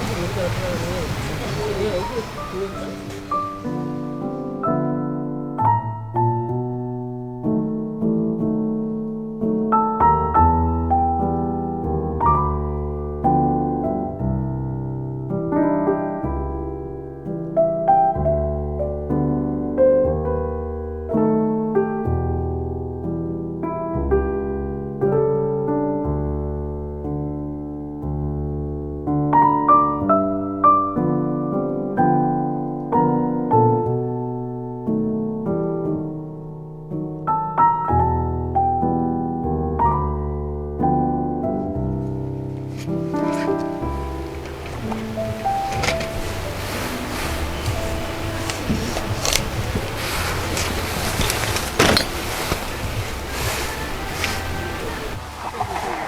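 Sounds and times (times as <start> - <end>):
slow piano chords: 0.0 - 56.0.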